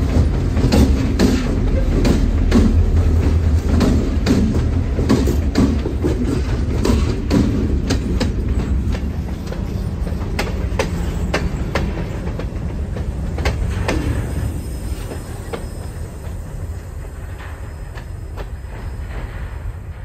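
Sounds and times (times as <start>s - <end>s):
diesel locomotive moving off: 0.0s - 20.0s
freight cars rumbling: 0.0s - 20.0s
wheels clicking over rail joints: 0.0s - 20.0s.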